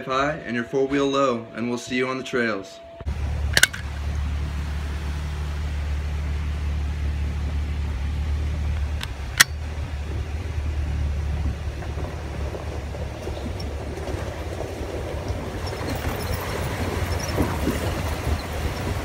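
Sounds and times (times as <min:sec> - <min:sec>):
engine and tyres rumbling: 0:00.0 - 0:19.0.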